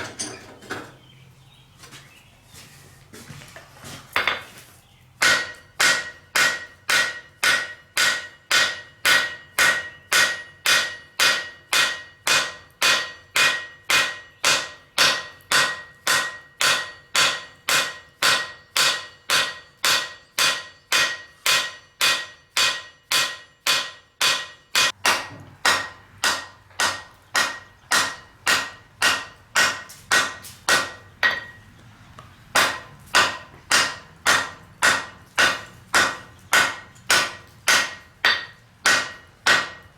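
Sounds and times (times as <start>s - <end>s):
hammer ringing on anvil: 5.2s - 31.6s, 32.6s - 39.9s.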